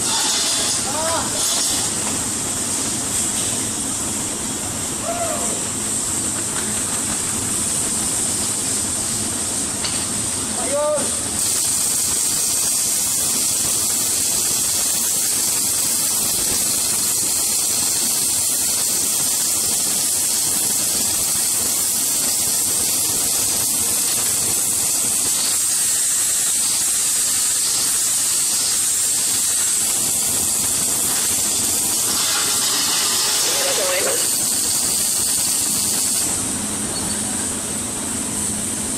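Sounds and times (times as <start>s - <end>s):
welding arc hissing: 0.0s - 38.9s.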